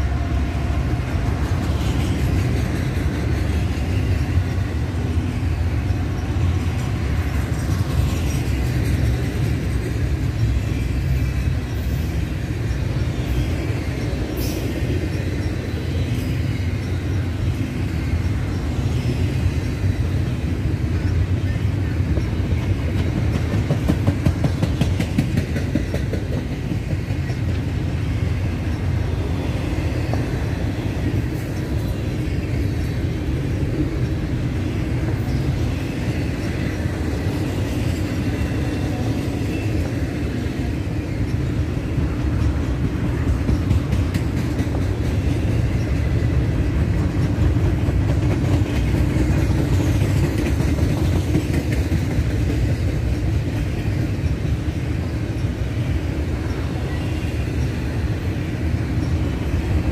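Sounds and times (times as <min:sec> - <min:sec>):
freight train rolling past: 0:00.0 - 0:59.9
wheels clicking over rail joints: 0:00.3 - 0:59.9.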